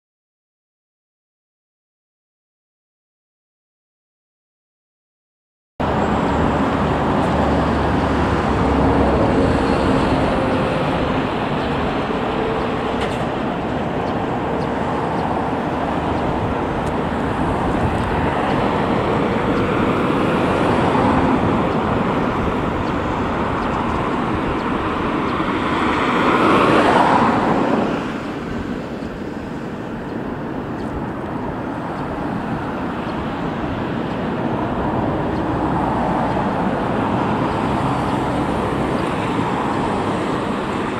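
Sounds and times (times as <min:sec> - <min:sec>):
road traffic rushing by: 0:05.8 - 0:40.9
vehicle passing close: 0:05.8 - 0:40.9.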